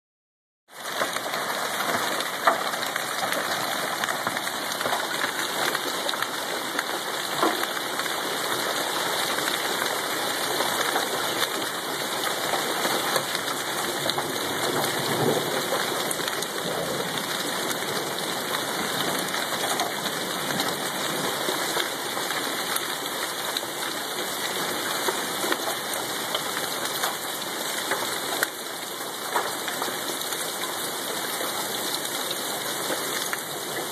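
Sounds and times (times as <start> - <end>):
hailstones ticking: 0.7 - 33.9
rain and hail hiss: 0.7 - 33.9.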